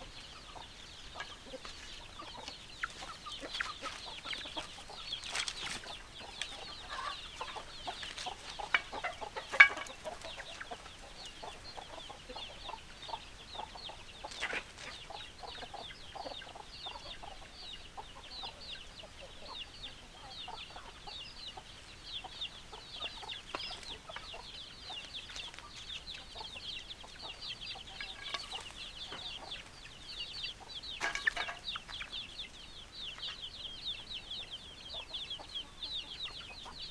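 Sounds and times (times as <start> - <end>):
chickens clucking: 0.0 - 36.9.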